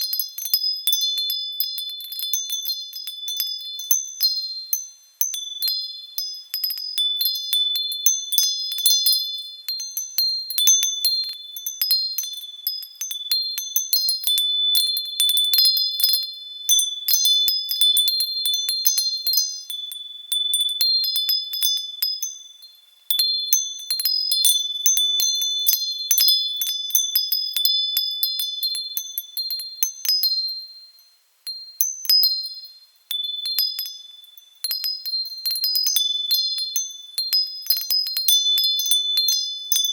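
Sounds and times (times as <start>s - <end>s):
metal wind chimes tinkling: 0.0s - 39.9s.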